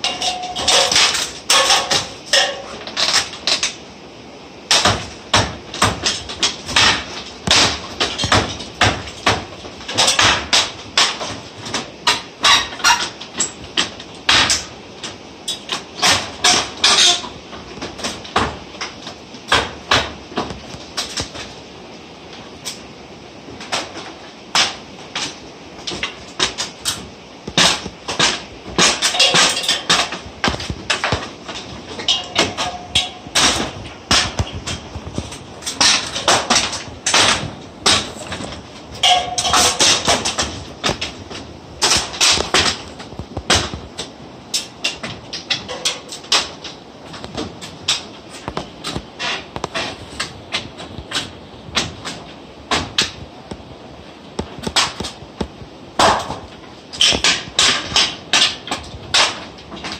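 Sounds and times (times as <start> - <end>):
knocks on wooden timbers: 4.7 - 21.6, 23.6 - 53.7, 54.4 - 59.9.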